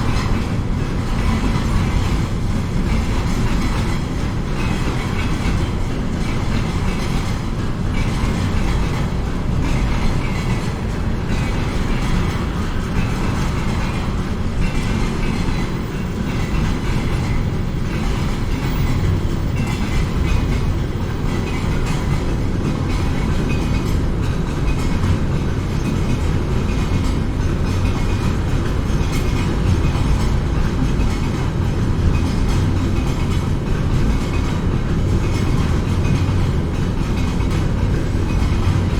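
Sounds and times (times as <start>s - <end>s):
train rumbling past: 0.0s - 38.9s
wheel clatter over rail joints: 0.0s - 38.9s.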